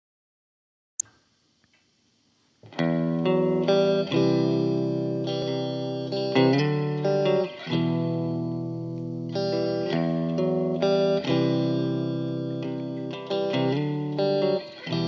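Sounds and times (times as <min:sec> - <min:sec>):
guitar chords: 0:02.6 - 0:15.0.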